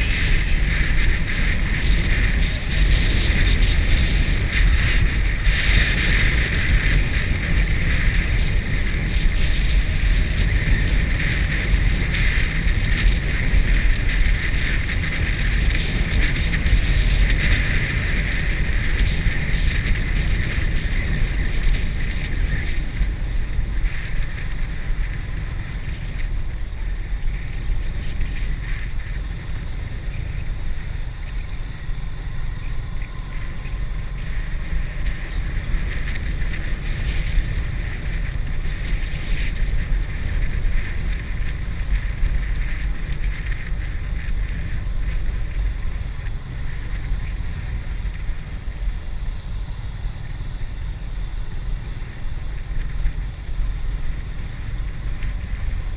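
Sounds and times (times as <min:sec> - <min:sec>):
motorbike engine: 0:00.0 - 0:55.9
road noise: 0:00.0 - 0:55.9
wind rumble on microphone: 0:00.0 - 0:55.9.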